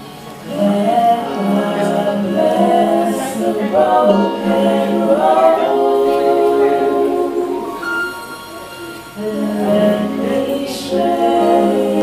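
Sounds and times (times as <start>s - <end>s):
group singing a cappella: 0.4s - 8.4s, 9.1s - 12.0s.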